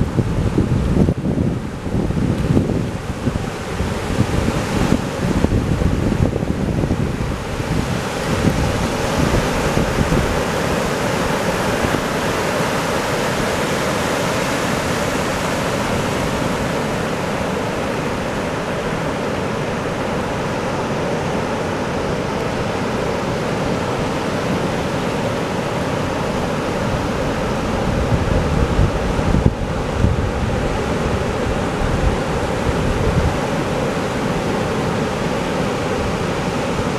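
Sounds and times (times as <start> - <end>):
ocean surf breaking: 0.0 - 36.9
wind buffeting microphone: 0.0 - 36.9.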